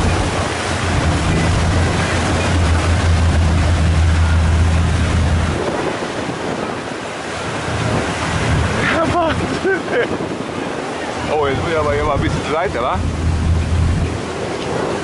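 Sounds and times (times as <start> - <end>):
choppy sea splashing: 0.0 - 15.0
low boat engine hum: 0.0 - 15.0
wind buffeting microphone: 0.0 - 15.0.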